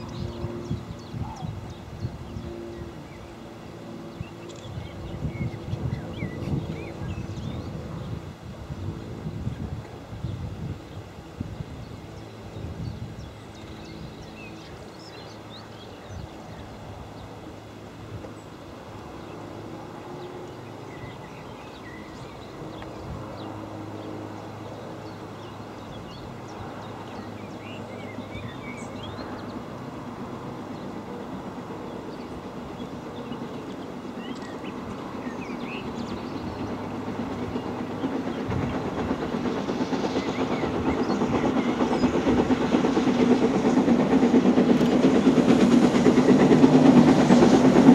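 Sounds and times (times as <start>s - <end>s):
steam locomotive approaching: 0.0s - 47.9s.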